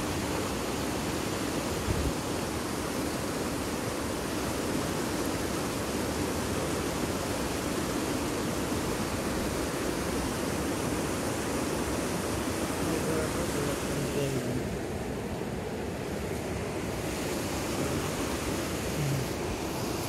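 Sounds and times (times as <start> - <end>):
river rushing over boulders: 0.0 - 20.0.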